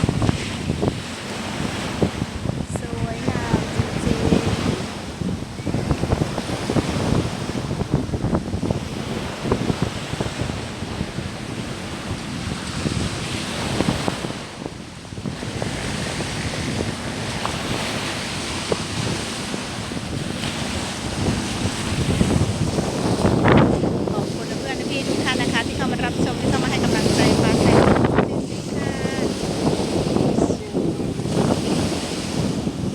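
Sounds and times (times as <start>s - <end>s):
sea waves breaking on shore: 0.0s - 32.9s
wind buffeting microphone: 0.0s - 32.9s.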